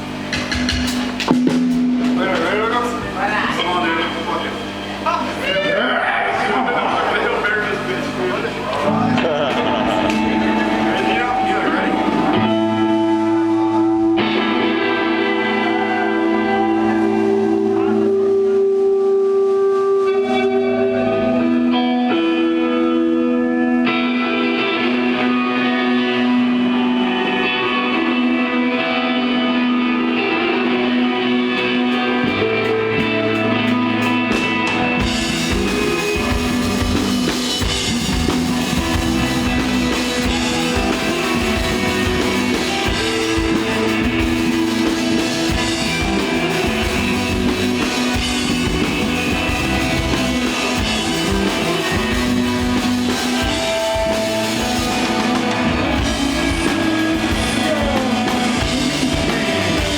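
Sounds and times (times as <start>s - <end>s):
drum kit: 0.0s - 5.6s, 6.5s - 22.1s, 31.6s - 59.9s
bass guitar: 0.0s - 59.9s
electric guitar: 0.0s - 59.9s.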